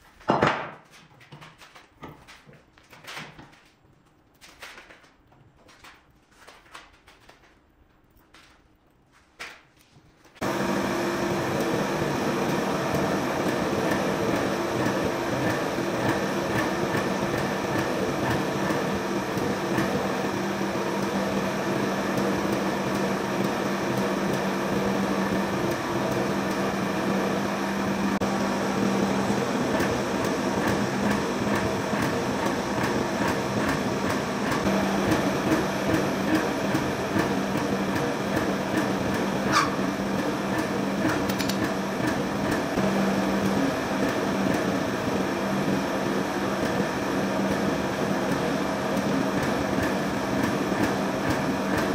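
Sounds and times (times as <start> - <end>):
machine hum: 10.2 - 51.9.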